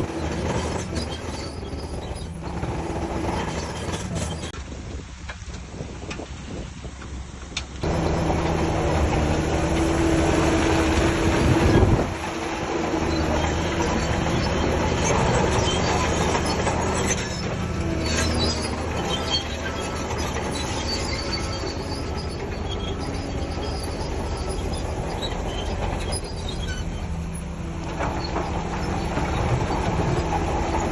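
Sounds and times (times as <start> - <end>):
steel tracks squealing and clanking: 0.0 - 4.6, 7.8 - 30.9
bulldozer diesel engine: 0.0 - 30.9.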